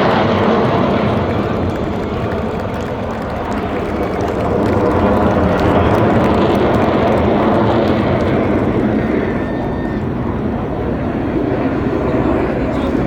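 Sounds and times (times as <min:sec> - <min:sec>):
fighter jet noise in flight: 0:00.0 - 0:13.0.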